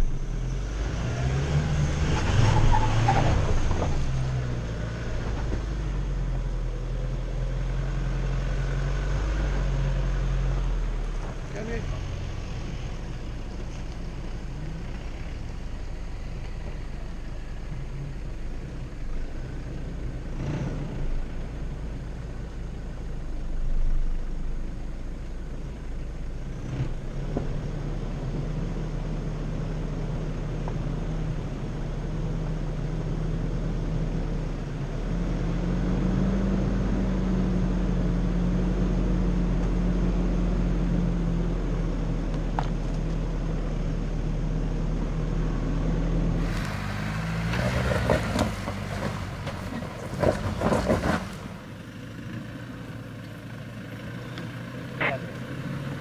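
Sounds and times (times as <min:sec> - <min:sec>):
off-road vehicle engine at low revs: 0:00.0 - 0:56.0.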